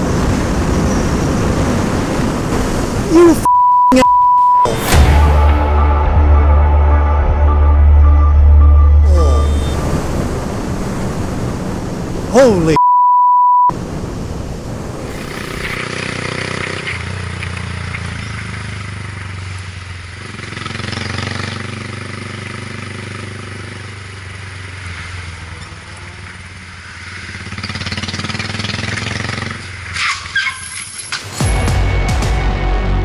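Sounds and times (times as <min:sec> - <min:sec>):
road and air noise: 0:00.0 - 0:31.4.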